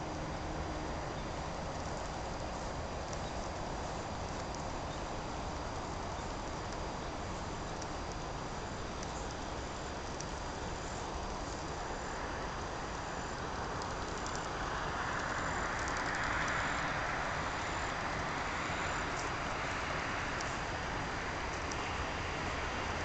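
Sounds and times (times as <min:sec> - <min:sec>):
faint high whine: 0:00.0 - 0:23.0
outdoor background hiss: 0:00.0 - 0:23.0.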